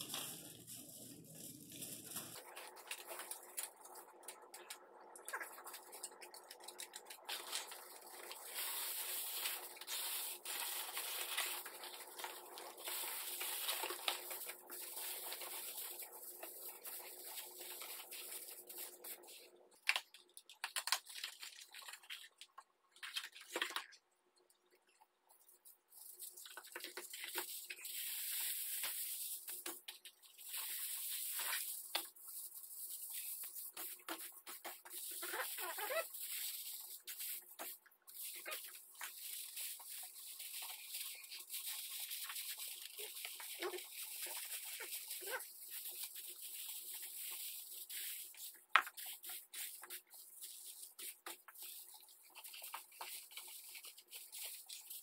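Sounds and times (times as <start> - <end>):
aluminium foil crinkling: 0.0 - 24.0, 25.6 - 55.0.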